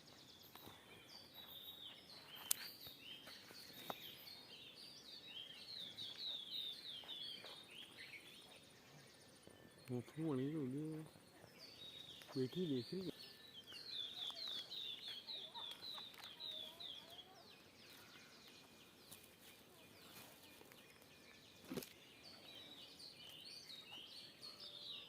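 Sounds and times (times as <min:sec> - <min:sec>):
small bird chirping: 0:00.0 - 0:25.0.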